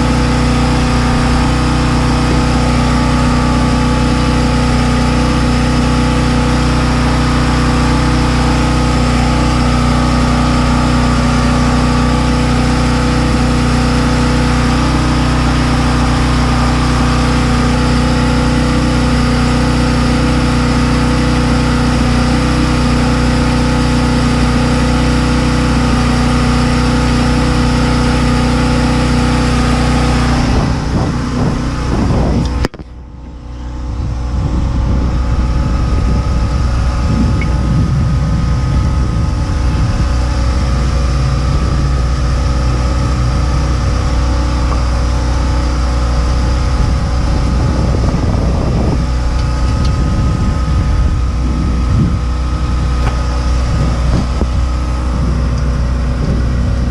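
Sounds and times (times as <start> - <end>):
engine idling with low drone: 0.0 - 56.9.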